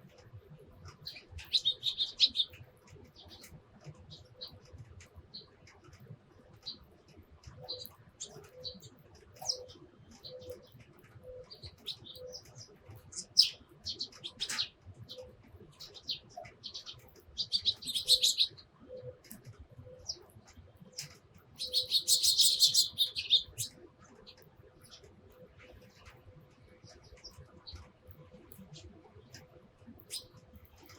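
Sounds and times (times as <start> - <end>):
sparrows chirping: 0.8 - 5.6, 6.5 - 6.9, 7.5 - 30.9.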